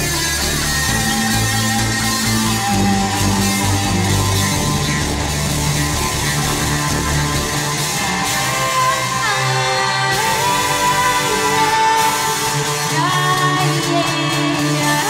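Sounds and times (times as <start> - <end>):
electric guitar: 0.0 - 15.0
low bass notes: 0.0 - 15.0
synthesizer keyboards: 0.0 - 15.0.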